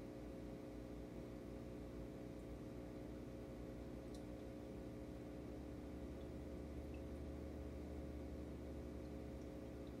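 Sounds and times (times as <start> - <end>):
aquarium pumps humming: 0.0 - 10.0.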